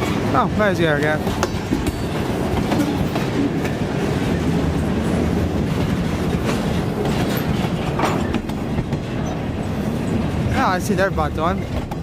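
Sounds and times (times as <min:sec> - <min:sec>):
freight train rumbling: 0:00.0 - 0:12.0
wheels clicking over rail joints: 0:00.0 - 0:12.0.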